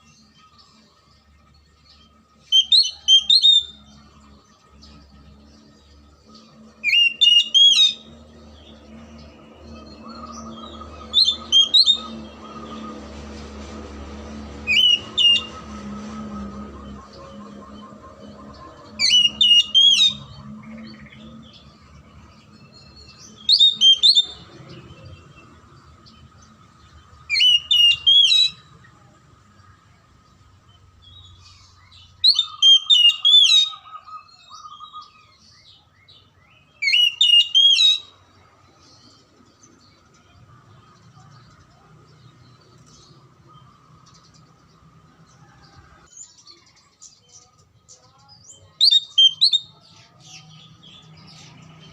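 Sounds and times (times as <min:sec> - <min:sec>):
bird whistled song: 0:00.0 - 0:29.0, 0:30.7 - 0:40.9, 0:45.5 - 0:51.9.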